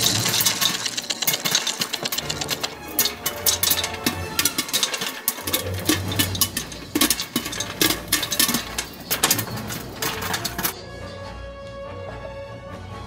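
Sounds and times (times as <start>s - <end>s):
rapid clicking and rattling: 0.0s - 10.8s.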